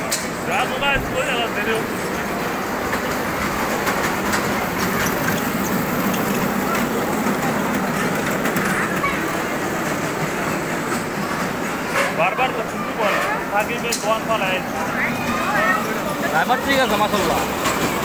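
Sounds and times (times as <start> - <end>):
small ride train running on track: 0.0 - 18.0.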